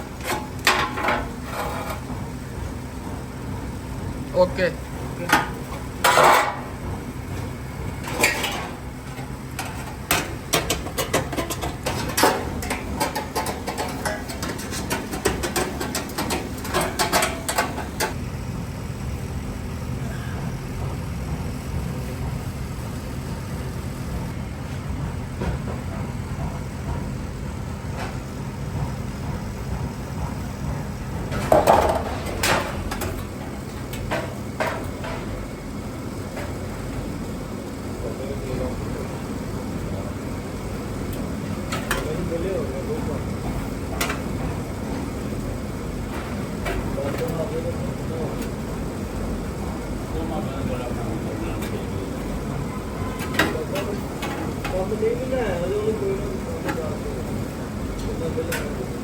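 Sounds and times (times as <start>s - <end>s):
low machine hum: 0.0s - 59.0s
workshop knocks and clicks: 0.1s - 3.8s, 5.0s - 18.2s, 20.1s - 37.2s, 41.0s - 59.0s.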